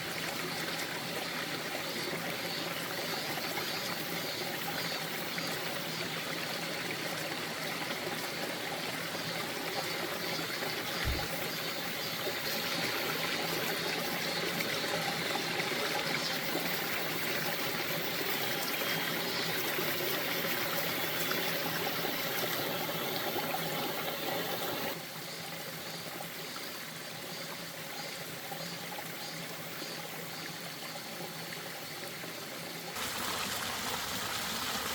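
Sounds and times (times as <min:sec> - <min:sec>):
stream running over rocks: 0:00.0 - 0:34.9.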